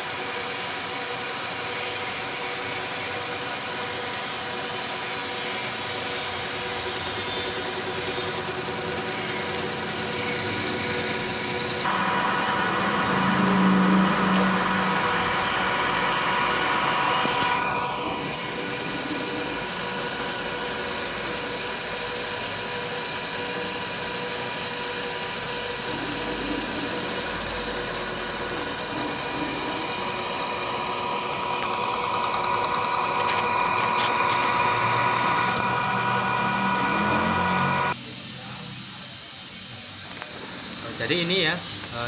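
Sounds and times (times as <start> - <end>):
metal lathe whine and cutting hiss: 0.0 - 42.0.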